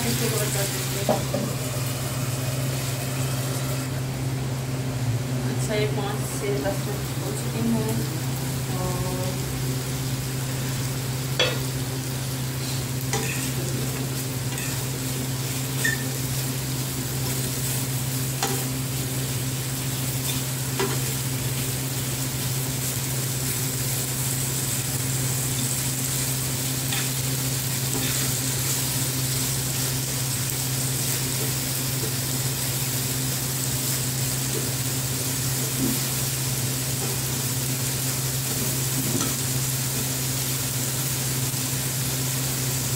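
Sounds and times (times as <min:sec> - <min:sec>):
chicken sizzling in oil: 0:00.0 - 0:42.9.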